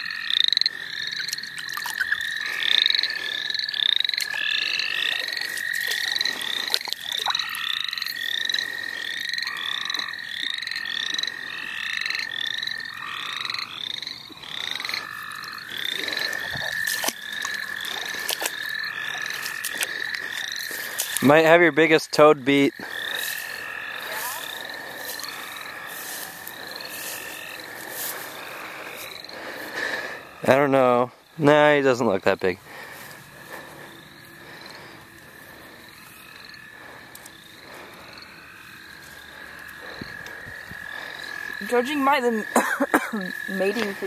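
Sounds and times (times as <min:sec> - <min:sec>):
short rising frog calls: 0:00.0 - 0:21.8, 0:22.6 - 0:31.4, 0:32.6 - 0:42.6
toads trilling: 0:00.0 - 0:44.0.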